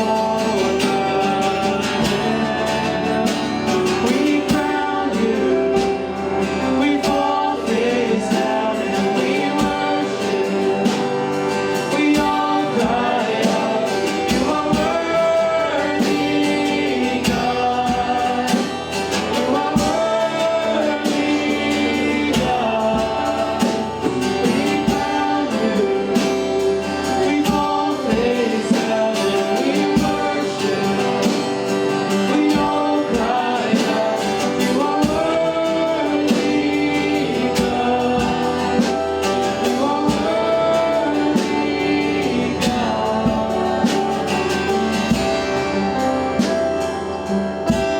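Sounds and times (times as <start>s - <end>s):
band with guitar and beat: 0.0s - 47.9s
worship singing: 0.0s - 47.9s.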